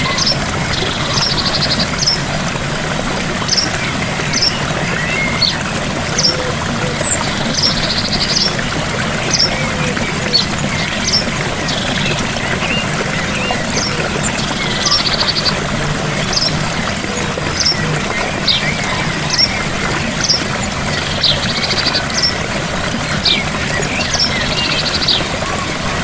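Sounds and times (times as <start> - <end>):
small birds chirping: 0.0 - 26.0
waterfall rushing: 0.0 - 26.0.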